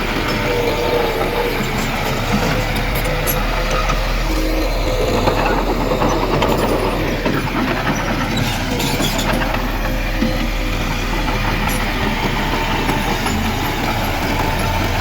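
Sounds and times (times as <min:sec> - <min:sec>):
bulldozer diesel engine droning: 0:00.0 - 0:15.0
metallic clatter of tracks: 0:00.0 - 0:15.0.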